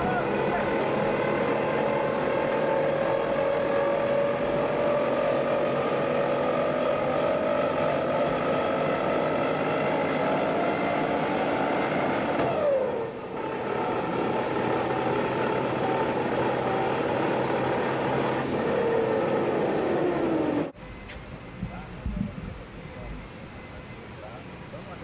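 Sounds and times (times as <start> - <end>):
electric hoist motor whine: 0.0 - 22.0.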